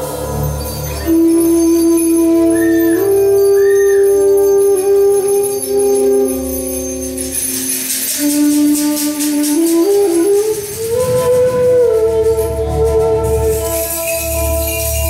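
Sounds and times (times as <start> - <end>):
bamboo flute melody: 0.0 - 15.0
high shimmering percussion: 0.0 - 15.0.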